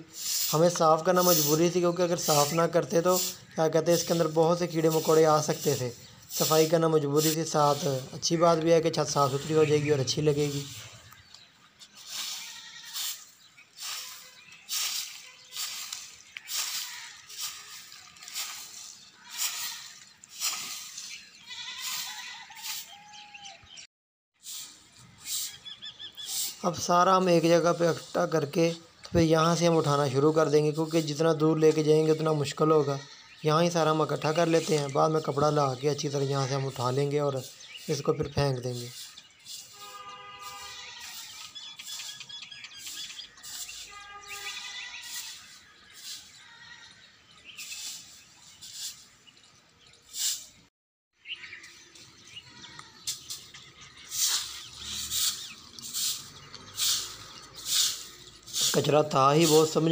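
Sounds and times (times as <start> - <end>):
straw broom sweeping leaves on concrete: 0.0 - 11.2, 11.8 - 23.0, 24.4 - 32.6, 33.6 - 49.4, 50.0 - 50.6, 53.0 - 59.9
birds chirping: 0.0 - 59.9.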